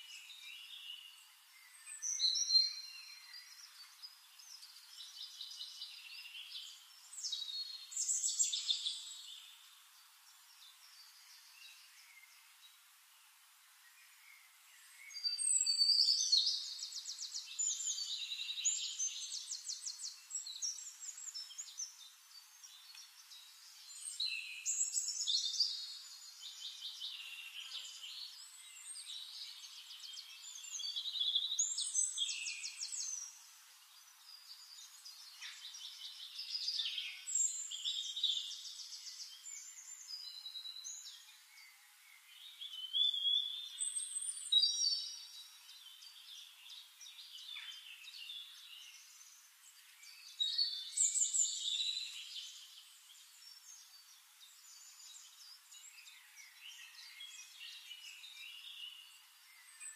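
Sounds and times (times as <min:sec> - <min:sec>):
bird chirps: 0:00.0 - 0:12.6, 0:13.9 - 0:59.9.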